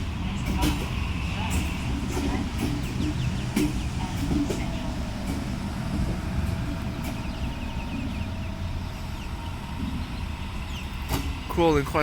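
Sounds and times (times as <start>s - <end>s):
electric train rolling: 0.0s - 12.0s.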